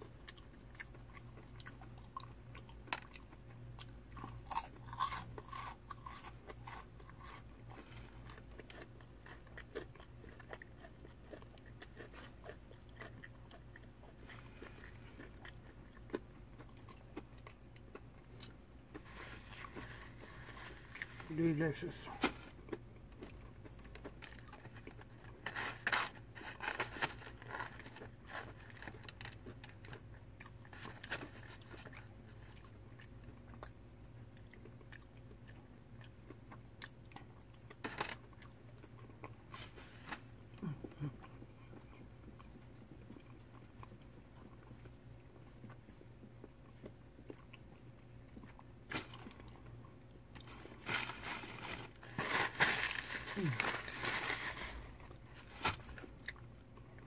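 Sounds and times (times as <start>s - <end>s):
person chewing and eating: 0.0s - 57.0s.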